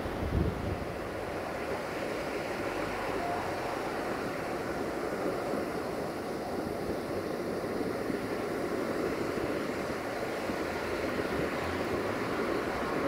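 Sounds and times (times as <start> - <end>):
diesel railcar approaching: 0.0 - 13.0
wind on microphone: 0.0 - 13.0.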